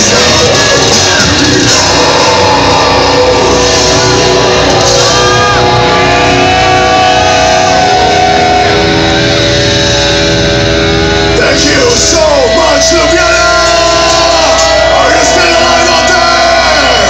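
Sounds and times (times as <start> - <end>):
death metal band playing live: 0.0 - 17.0.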